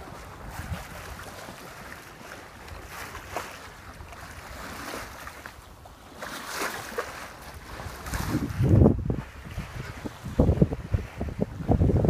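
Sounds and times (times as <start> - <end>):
wind noise on microphone: 0.0 - 5.4, 6.3 - 12.0
water rushing along a hull: 0.0 - 12.0.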